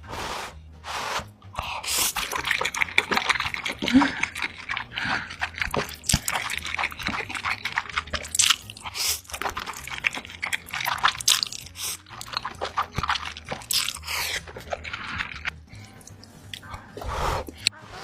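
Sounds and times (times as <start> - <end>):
chewing crunchy food: 1.6 - 17.8.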